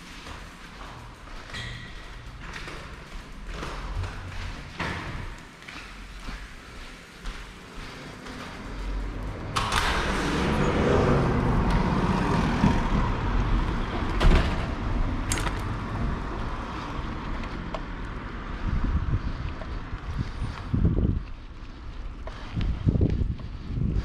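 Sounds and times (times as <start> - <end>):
outdoor street noise: 0.0 - 24.0.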